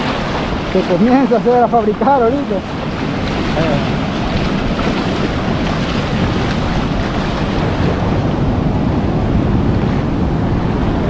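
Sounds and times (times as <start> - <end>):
ocean surf washing over sand: 0.0 - 11.0
wind buffeting microphone: 0.0 - 11.0.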